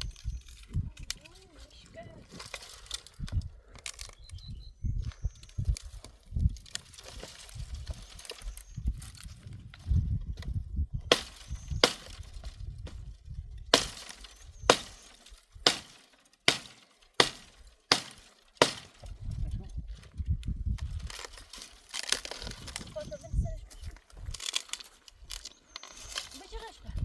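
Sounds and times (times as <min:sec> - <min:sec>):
dry branches snapping: 0:00.0 - 0:27.0.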